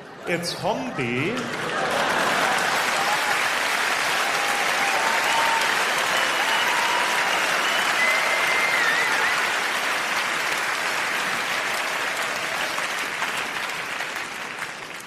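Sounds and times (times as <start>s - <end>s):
large audience applauding: 0.6s - 15.0s.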